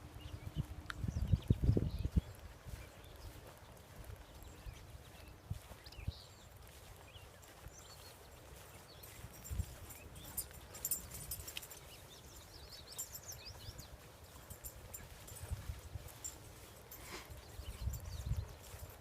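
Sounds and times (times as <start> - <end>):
footsteps on a path: 0.0 - 19.0
small birds chirping: 0.0 - 19.0.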